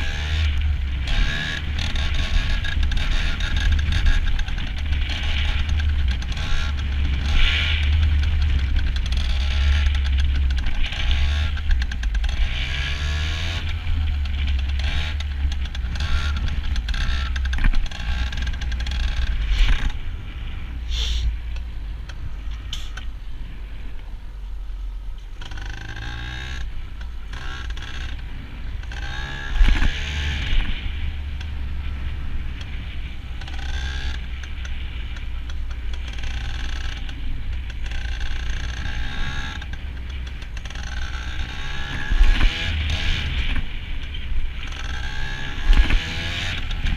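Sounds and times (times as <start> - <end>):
two-stroke motorcycle engine revving: 0.0 - 23.1, 25.3 - 46.9.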